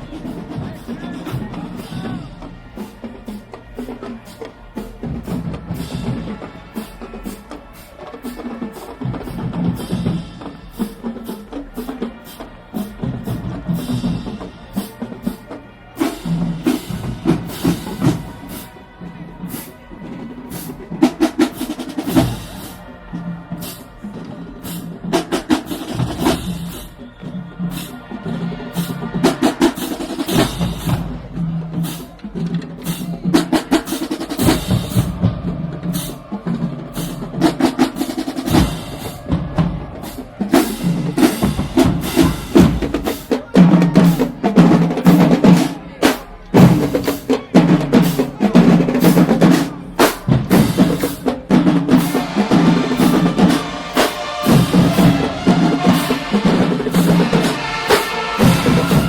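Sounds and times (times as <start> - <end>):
snare drum rolls: 0.0 - 59.0.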